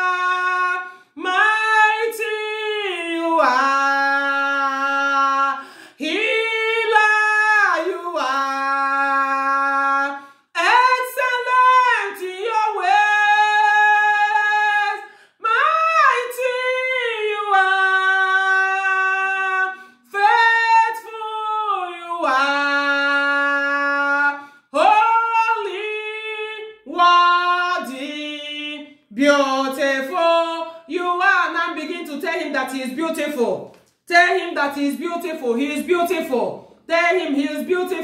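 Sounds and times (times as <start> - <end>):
woman singing: 0.0 - 38.0.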